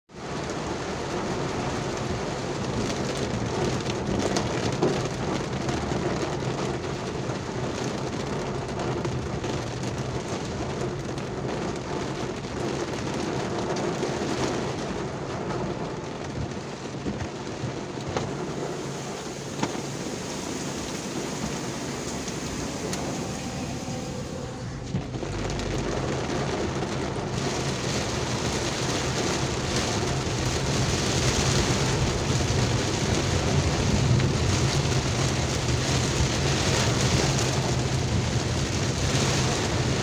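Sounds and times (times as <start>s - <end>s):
heavy rain pouring: 0.1s - 40.0s.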